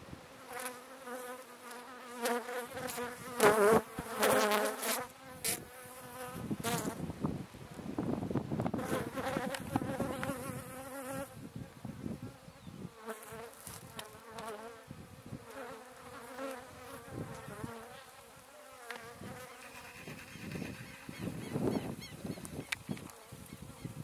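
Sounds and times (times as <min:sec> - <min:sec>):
honeybees buzzing: 0:00.4 - 0:07.1, 0:08.6 - 0:24.0.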